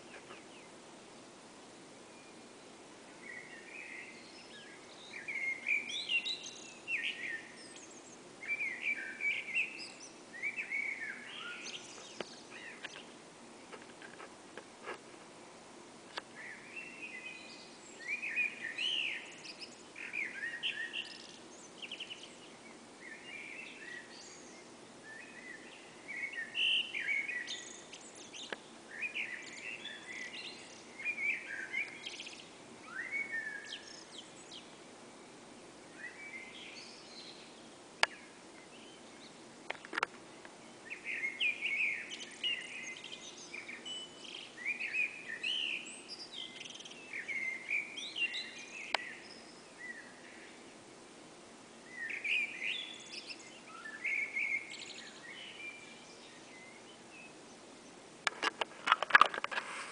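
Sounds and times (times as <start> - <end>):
low background noise: 0.0 - 59.9
songbirds singing: 0.0 - 59.9.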